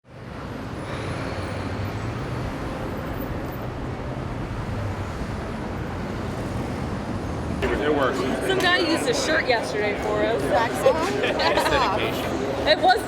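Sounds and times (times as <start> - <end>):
busy hall background din: 0.5 - 13.0.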